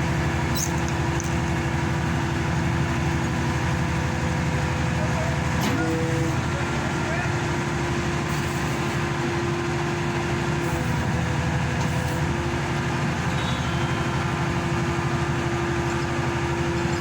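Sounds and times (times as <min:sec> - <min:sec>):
diesel engine pulsing: 0:00.0 - 0:17.0.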